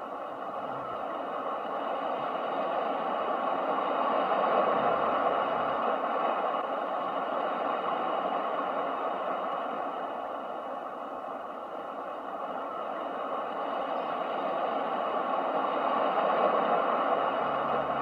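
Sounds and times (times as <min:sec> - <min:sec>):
ocean surf: 0:00.0 - 0:18.0.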